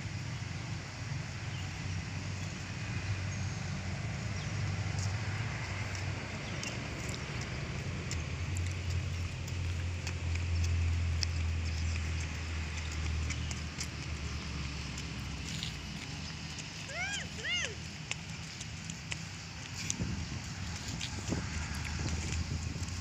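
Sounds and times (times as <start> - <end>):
footsteps on paving stones: 0.9 - 23.0.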